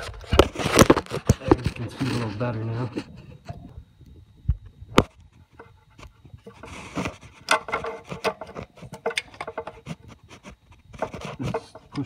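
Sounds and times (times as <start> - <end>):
rubbing and scraping on connector: 0.0 - 3.7, 5.4 - 12.0.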